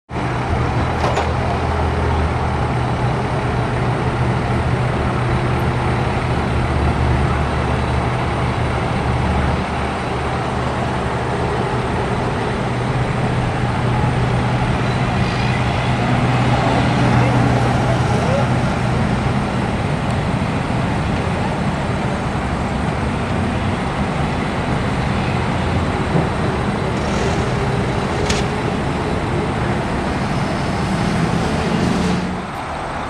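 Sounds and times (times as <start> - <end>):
heavy vehicle engines droning: 0.1 - 33.0
road traffic: 0.1 - 33.0.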